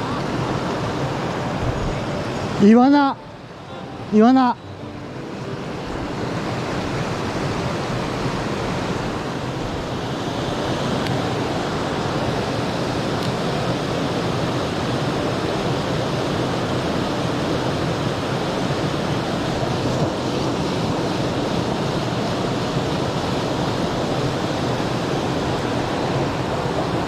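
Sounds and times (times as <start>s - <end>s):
mountain stream flowing: 0.0s - 27.0s.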